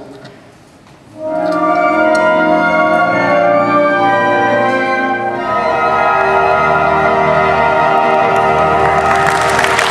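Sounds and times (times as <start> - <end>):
orchestra playing sustained chords: 1.1 - 9.9.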